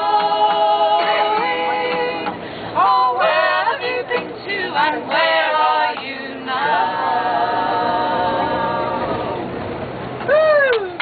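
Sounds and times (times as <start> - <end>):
women singing in harmony: 0.0 - 9.7.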